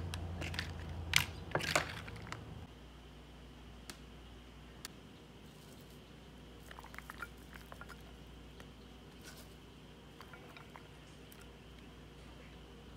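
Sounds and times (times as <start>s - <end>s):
low room hum: 0.0s - 12.9s.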